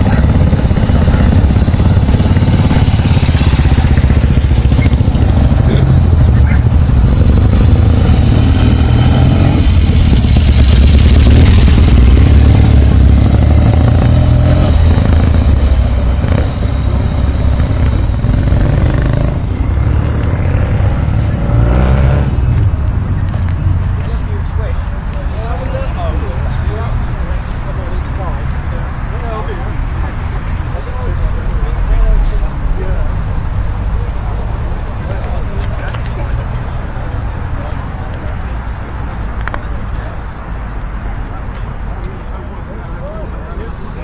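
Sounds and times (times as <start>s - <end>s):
motorcycle engine rumbling: 0.0s - 44.0s.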